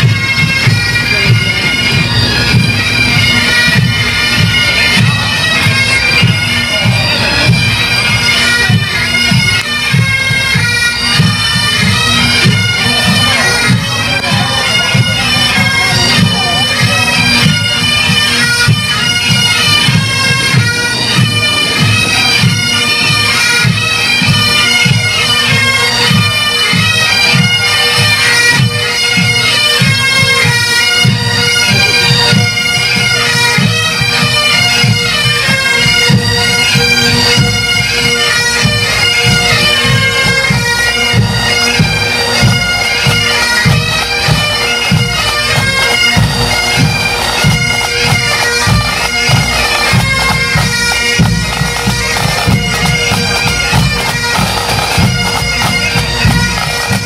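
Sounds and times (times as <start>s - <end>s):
pipe bands playing bagpipes: 0.0s - 57.0s.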